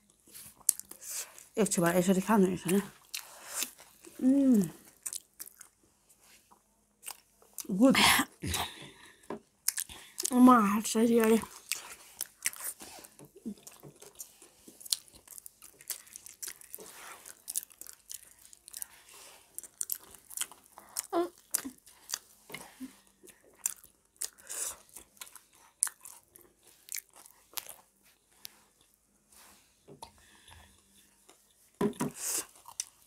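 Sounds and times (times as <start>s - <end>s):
chewing and biting food: 0.4s - 1.5s, 2.6s - 5.8s, 6.4s - 7.7s, 9.6s - 10.4s, 11.2s - 29.0s, 30.0s - 33.0s.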